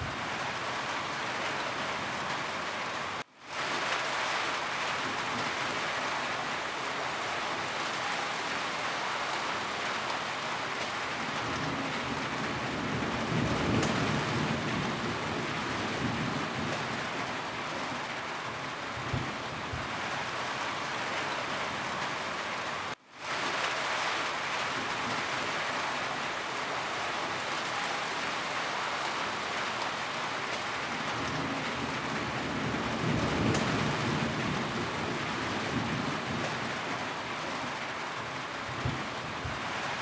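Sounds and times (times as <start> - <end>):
rain on a roof: 0.0 - 40.0.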